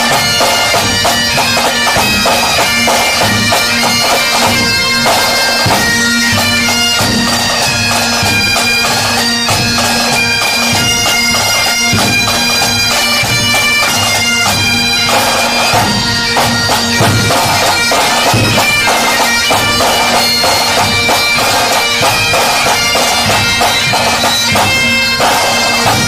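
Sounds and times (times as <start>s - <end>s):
bagpipes playing a tune: 0.0s - 26.0s
drums beating: 0.0s - 26.0s.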